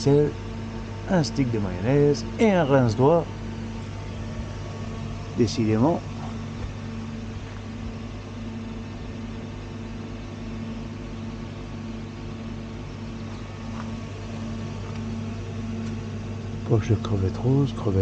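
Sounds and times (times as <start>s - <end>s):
cooling unit humming: 0.0s - 18.0s.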